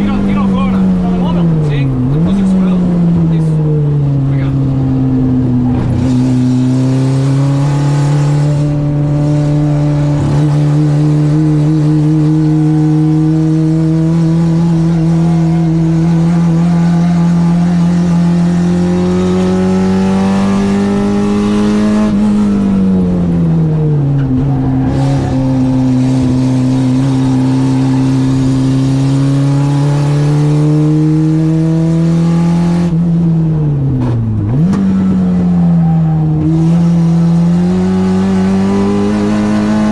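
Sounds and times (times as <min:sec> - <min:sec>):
car engine revving at full throttle: 0:00.0 - 0:39.9.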